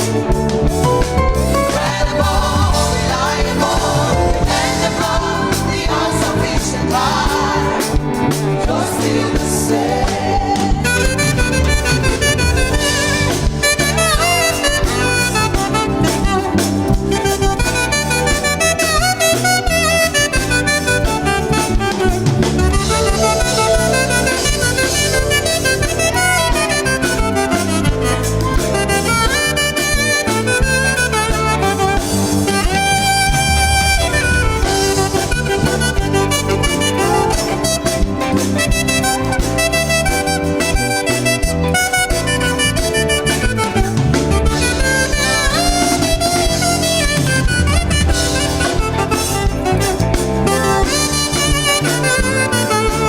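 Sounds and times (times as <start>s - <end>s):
band with bass and drums: 0.0s - 53.0s.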